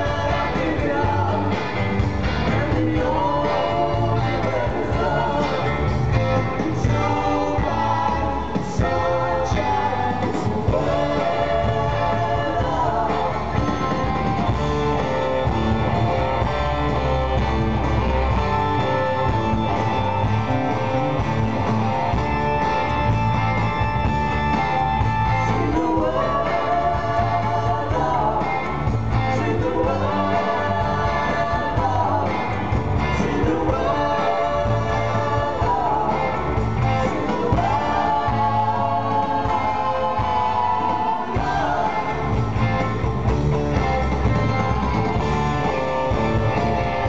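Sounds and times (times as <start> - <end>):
lead vocal singing: 0.0 - 19.9, 24.8 - 43.2
live rock band playing: 0.0 - 47.0.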